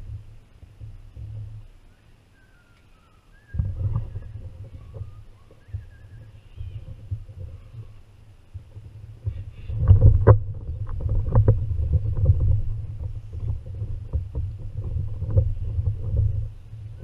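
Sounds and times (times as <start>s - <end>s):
kayak rumbling on water: 0.0s - 1.8s, 3.5s - 17.0s.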